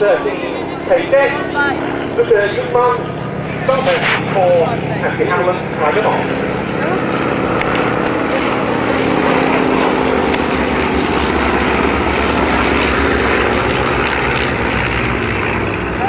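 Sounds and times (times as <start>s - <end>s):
propeller planes droning past: 0.0s - 16.0s.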